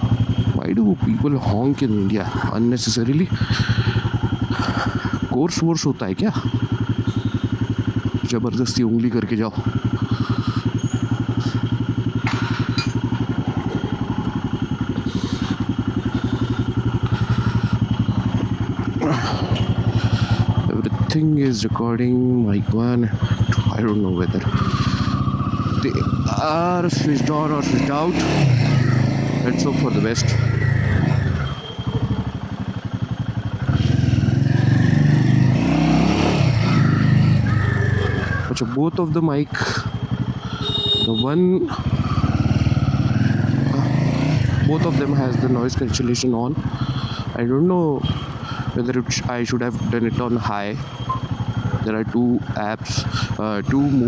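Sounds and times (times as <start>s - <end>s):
motorcycle engine pulsing at low revs: 0.0s - 54.0s.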